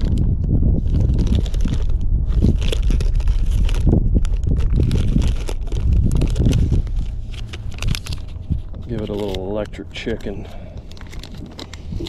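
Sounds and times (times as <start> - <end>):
plastic packets crinkling: 0.0 - 12.0
wind buffeting microphone: 0.0 - 12.0.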